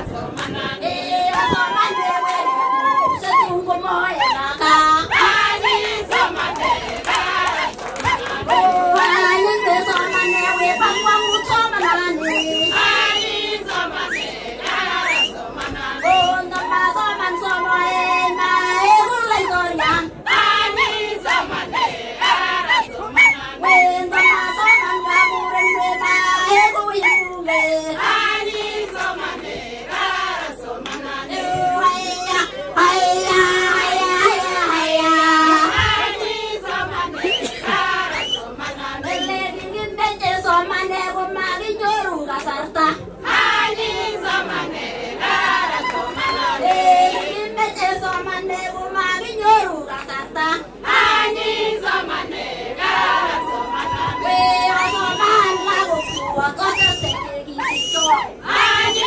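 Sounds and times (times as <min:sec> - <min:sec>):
women singing together: 0:00.0 - 0:59.0.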